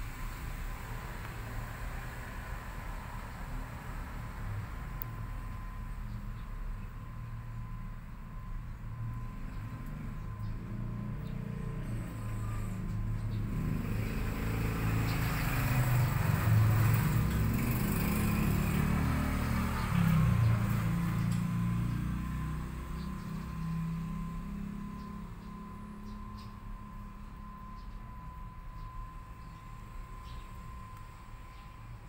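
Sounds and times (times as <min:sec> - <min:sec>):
passing motor vehicle rumble: 0:00.0 - 0:32.0.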